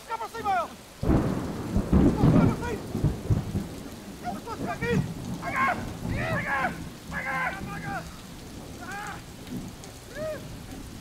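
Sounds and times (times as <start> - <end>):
wind buffeting microphone: 1.0 - 11.0.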